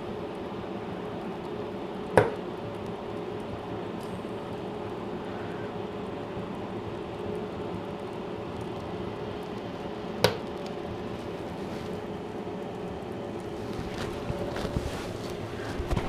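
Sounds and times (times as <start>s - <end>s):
stove fire rushing hum: 0.0s - 16.0s
fire popping: 0.1s - 16.0s.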